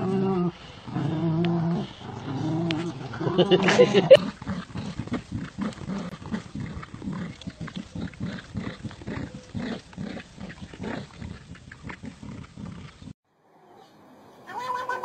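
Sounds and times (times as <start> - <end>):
dogs growling in play: 0.0 - 13.2.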